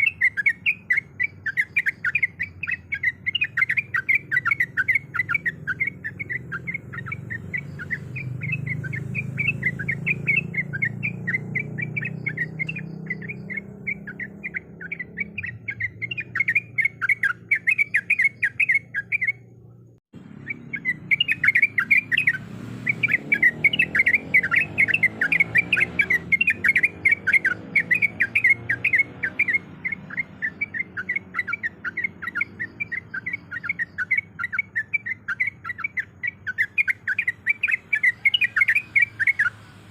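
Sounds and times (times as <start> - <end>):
bulbul chirping rapidly: 0.0 - 19.5, 20.2 - 39.9.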